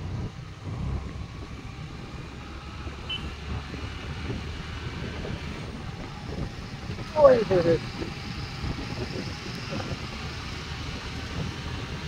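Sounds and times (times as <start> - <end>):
scooter engine and road rumble: 0.0 - 12.0
wind on microphone: 0.0 - 12.0.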